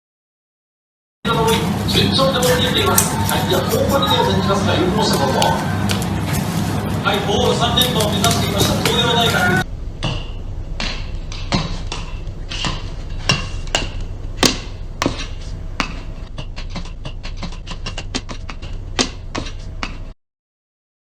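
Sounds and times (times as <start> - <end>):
low steady hum: 1.3 - 20.2.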